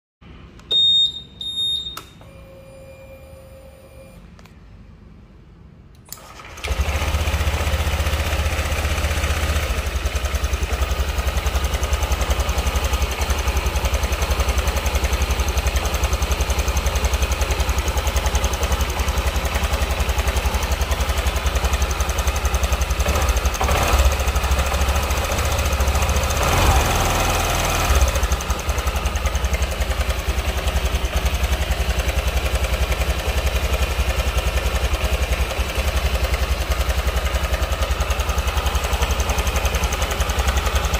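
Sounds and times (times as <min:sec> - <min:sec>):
scooter engine idling roughly: 0:06.3 - 0:40.9.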